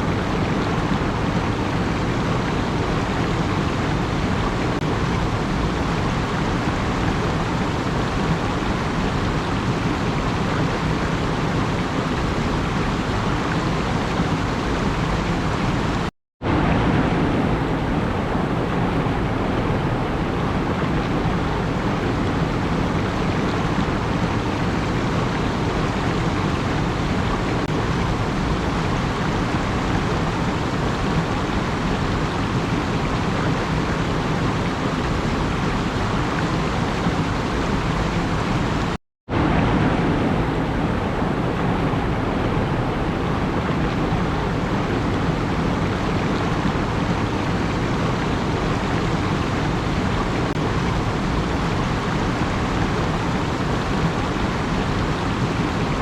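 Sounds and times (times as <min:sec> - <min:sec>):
steady rushing noise: 0:00.0 - 0:56.0.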